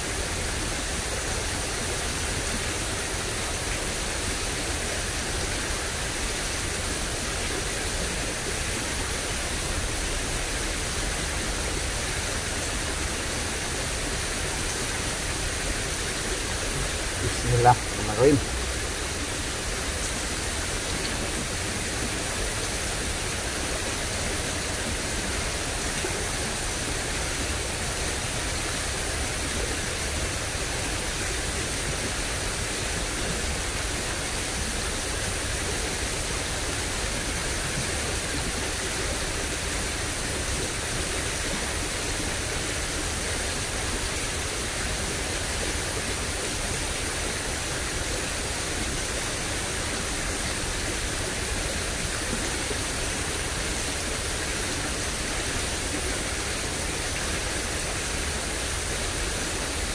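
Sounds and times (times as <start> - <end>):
water rushing in ditch: 0.0 - 59.9.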